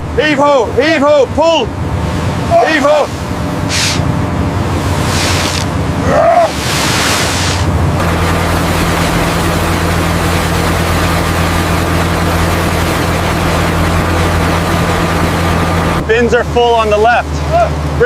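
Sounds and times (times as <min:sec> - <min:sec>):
boat engine droning: 0:00.0 - 0:18.0
sea water washing: 0:01.3 - 0:16.9.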